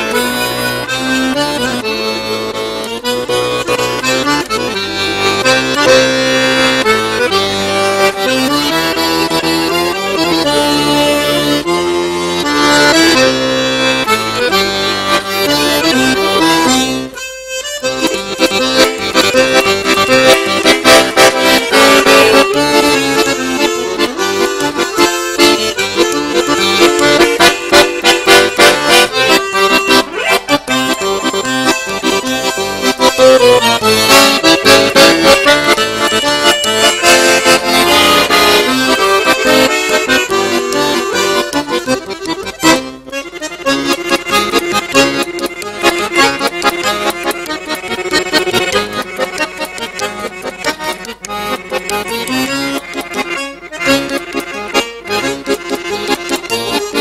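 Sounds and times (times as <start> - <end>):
accordion playing: 0.0 - 57.0.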